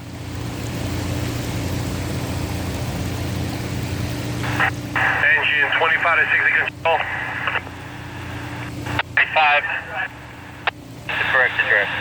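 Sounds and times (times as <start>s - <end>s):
fire engine rumbling: 0.0s - 12.0s.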